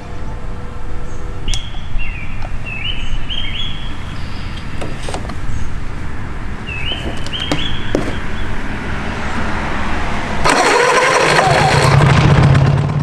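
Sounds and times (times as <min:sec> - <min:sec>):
birds chirping: 0:00.0 - 0:10.5.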